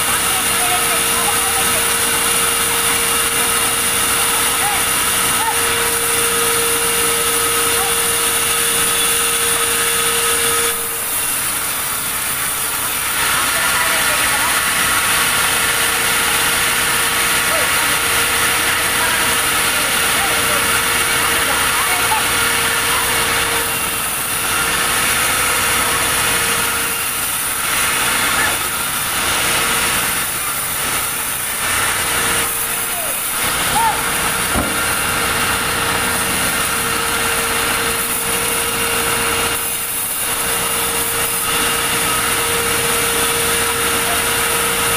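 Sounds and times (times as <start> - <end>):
sawmill saw cutting timber: 0.0 - 44.9.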